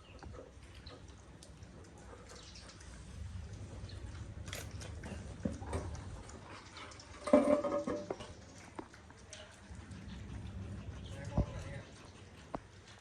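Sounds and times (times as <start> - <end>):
puppies eating clicking and smacking: 0.0 - 13.0.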